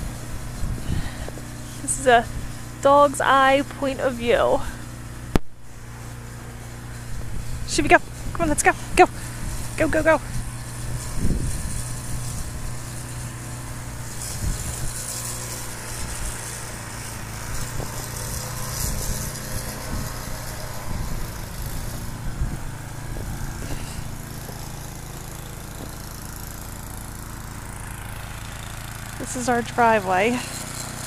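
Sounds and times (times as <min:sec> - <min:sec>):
snow-thrower engine running: 0:00.0 - 0:31.0.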